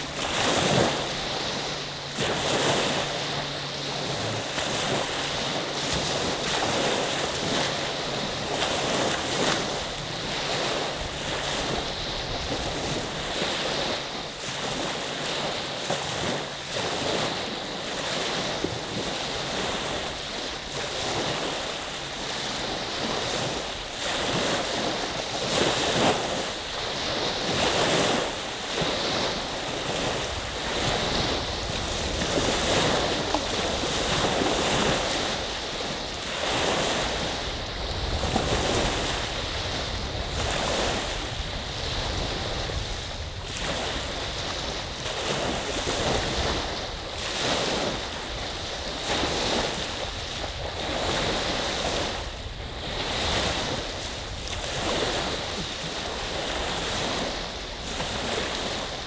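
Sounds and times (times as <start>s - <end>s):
small waves washing onto shore: 0.0s - 59.0s.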